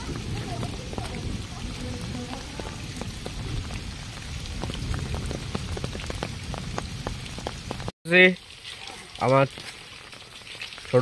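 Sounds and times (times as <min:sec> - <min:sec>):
rain drops tapping: 0:00.0 - 0:11.0.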